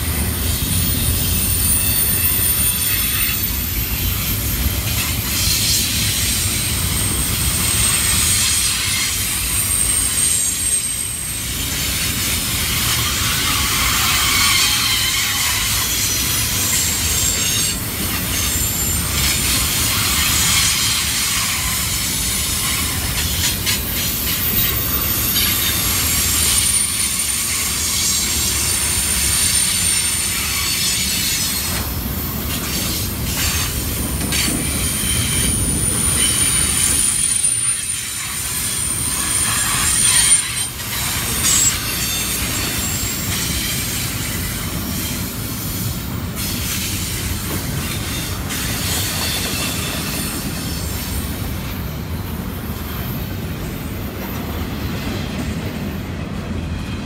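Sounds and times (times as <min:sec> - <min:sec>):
train wheels rumbling on rails: 0:00.0 - 0:57.0
high wheel flange squeal: 0:00.3 - 0:54.5.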